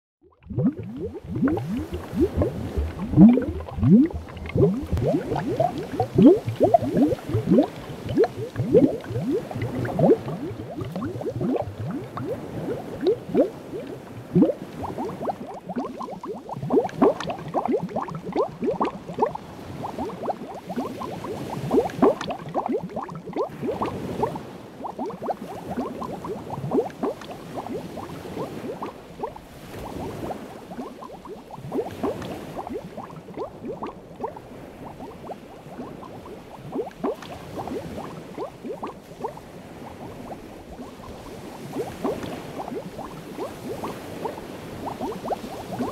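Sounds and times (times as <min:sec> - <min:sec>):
aquarium water bubbling: 0:00.2 - 0:45.9.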